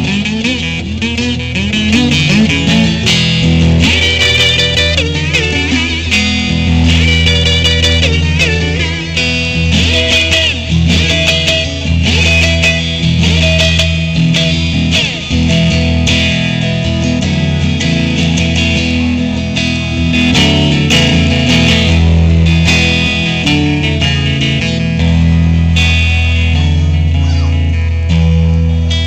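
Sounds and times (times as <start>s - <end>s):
electric guitar lead: 0.0s - 29.0s
band accompaniment: 0.1s - 27.8s.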